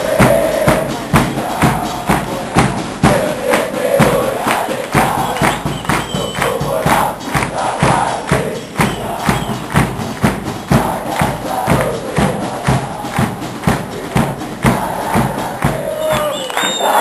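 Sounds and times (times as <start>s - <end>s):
bass drums pounding: 0.0s - 16.3s
crowd chanting: 0.0s - 17.0s.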